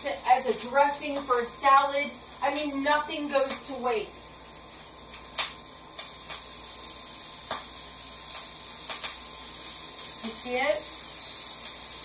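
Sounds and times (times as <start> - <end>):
sandwich sizzling in pan: 0.0 - 12.0.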